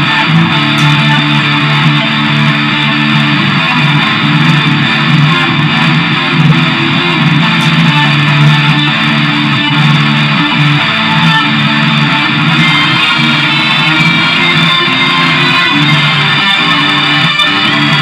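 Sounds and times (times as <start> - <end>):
progressive rock with guitars: 0.0 - 18.0.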